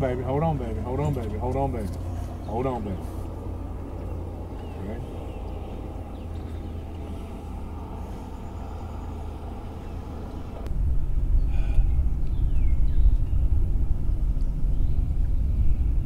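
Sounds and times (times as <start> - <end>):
low rumble of boat under way: 0.0 - 16.0
outboard motor running: 0.0 - 16.0.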